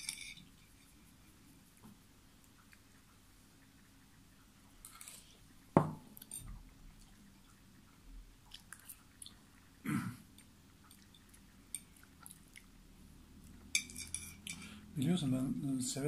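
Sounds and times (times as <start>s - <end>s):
soft chewing: 0.4s - 14.9s.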